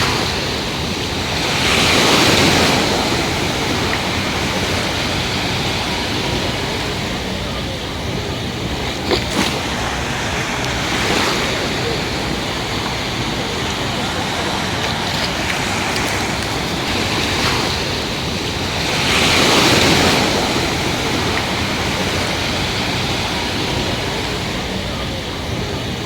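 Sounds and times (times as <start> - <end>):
sea waves washing onto beach: 0.0 - 26.0
wind buffeting microphone: 0.0 - 26.0.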